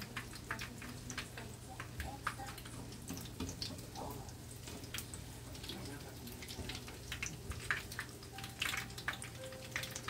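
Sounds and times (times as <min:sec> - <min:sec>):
food frying in hot oil: 0:00.0 - 0:10.0
oil crackling and popping: 0:00.0 - 0:10.0.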